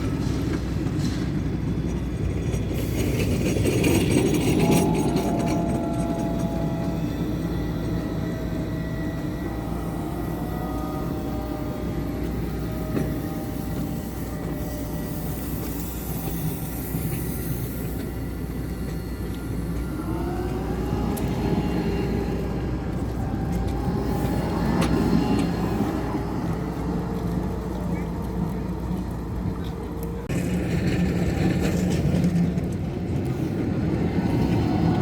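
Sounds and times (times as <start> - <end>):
steady rumble: 0.0 - 35.0
tram motors whining: 0.0 - 35.0.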